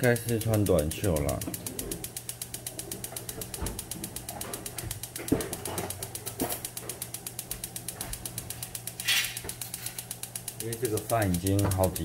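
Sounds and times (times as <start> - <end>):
rapid mechanical ticking: 0.0 - 12.0.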